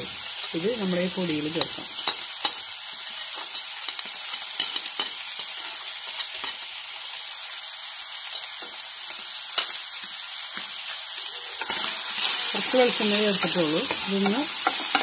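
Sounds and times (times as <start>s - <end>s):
prawns sizzling in a frying pan: 0.0s - 15.0s.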